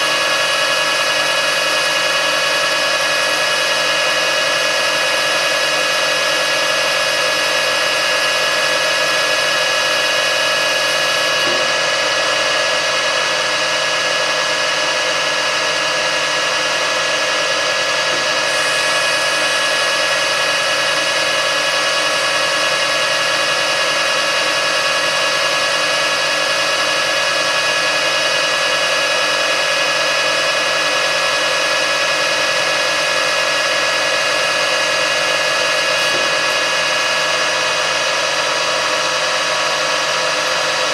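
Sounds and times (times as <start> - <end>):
metal lathe whining: 0.0 - 40.9.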